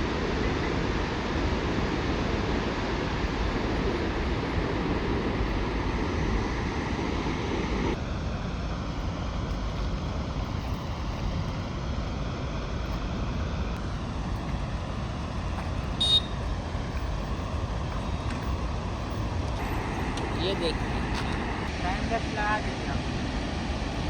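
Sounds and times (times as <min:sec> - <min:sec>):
waterfall roaring: 0:00.0 - 0:09.4, 0:12.0 - 0:24.0.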